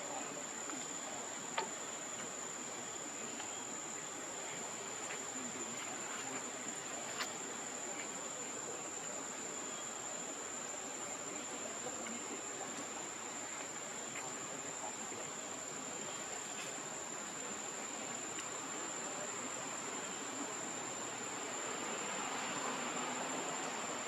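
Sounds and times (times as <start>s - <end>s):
crickets droning: 0.0s - 24.0s.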